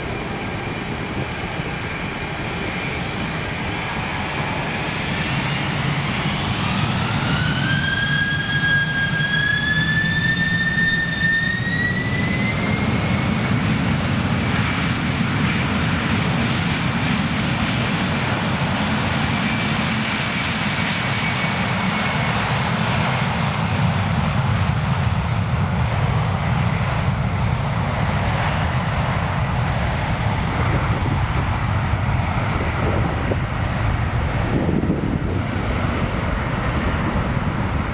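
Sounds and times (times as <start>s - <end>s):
jet engines spooling up: 0.0s - 37.9s.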